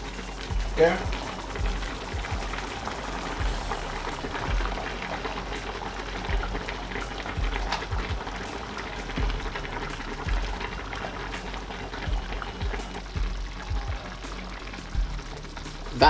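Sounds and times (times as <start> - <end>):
sauce bubbling in a pan: 0.0 - 16.0
soft low bumps: 0.0 - 16.0.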